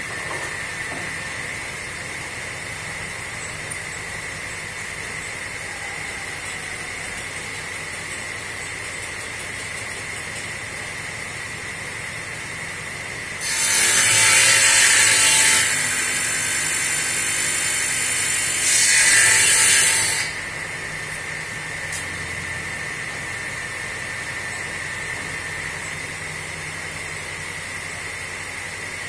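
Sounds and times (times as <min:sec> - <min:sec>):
saw cutting wooden board: 0:00.0 - 0:10.8, 0:13.1 - 0:29.0
table saw whining: 0:00.0 - 0:29.0.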